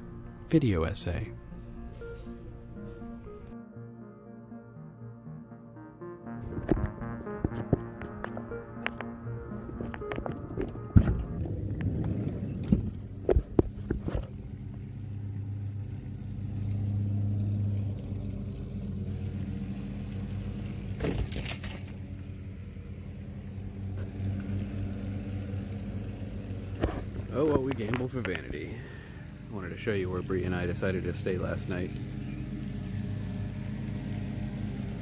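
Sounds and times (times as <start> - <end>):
low engine hum: 6.3 - 35.0.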